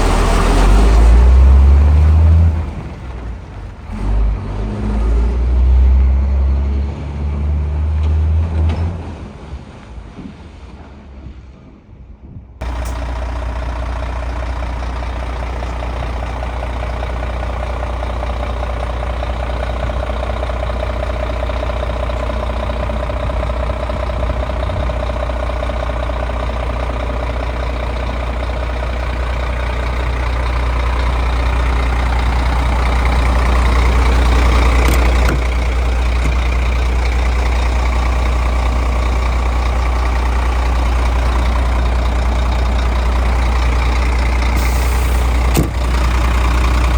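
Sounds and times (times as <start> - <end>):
diesel truck engine idling: 0.0 - 4.3, 12.6 - 46.9.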